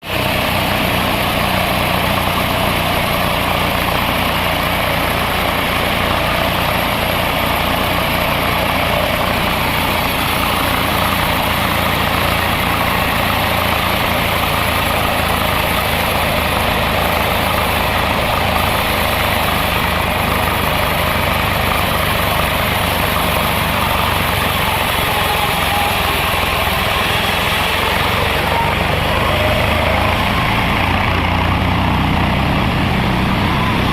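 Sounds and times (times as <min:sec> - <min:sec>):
engine-driven saw cutting log: 0:00.0 - 0:33.9.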